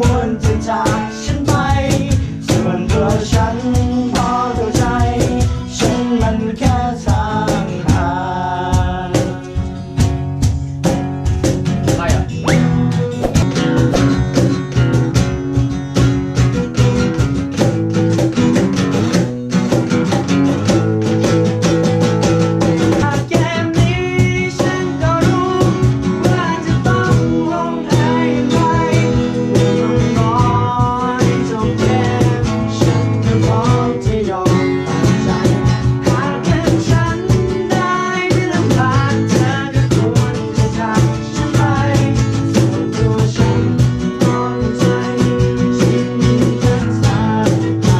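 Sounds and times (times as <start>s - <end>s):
guitar-led song: 0.0s - 47.9s.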